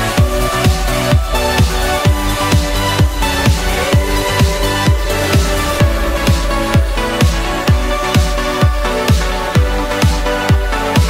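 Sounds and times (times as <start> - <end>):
sustained synth tones: 0.0 - 9.1
electronic dance music: 0.0 - 11.0
steady kick drum: 0.0 - 11.0.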